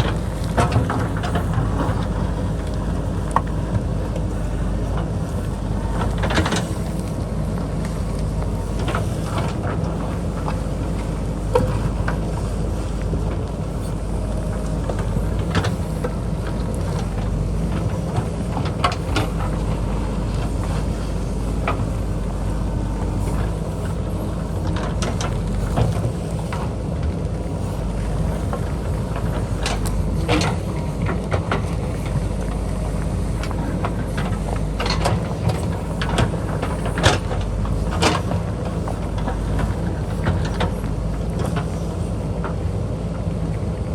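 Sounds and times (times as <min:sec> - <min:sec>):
digging knocks and clanks: 0:00.0 - 0:42.6
diesel engine running under load: 0:00.0 - 0:43.9.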